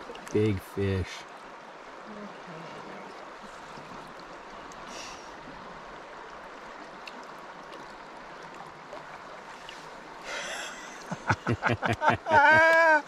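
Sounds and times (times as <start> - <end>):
river flowing over stones: 0.0 - 13.0
water splashing: 0.0 - 13.0.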